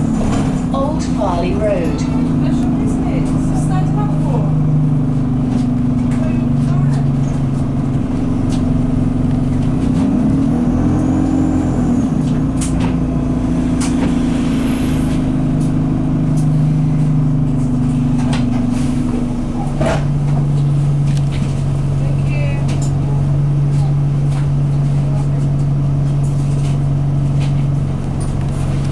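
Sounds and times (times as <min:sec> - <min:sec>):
bus diesel engine running: 0:00.0 - 0:28.9
interior rattles and clicks: 0:00.0 - 0:28.9.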